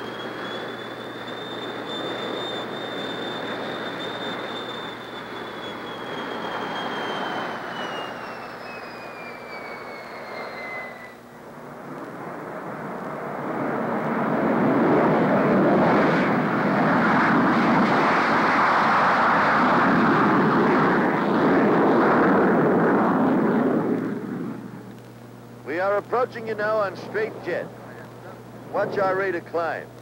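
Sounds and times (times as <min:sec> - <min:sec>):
high turbine whine: 0:00.0 - 0:30.0
jet engine on takeoff: 0:00.0 - 0:30.0.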